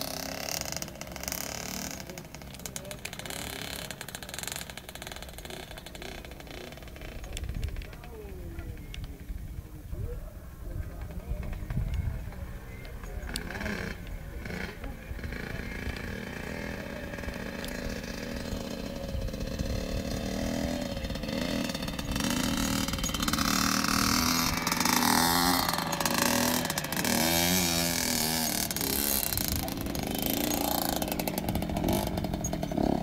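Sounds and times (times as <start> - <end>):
dirt bike engine revving: 0.0 - 8.0, 13.1 - 33.0.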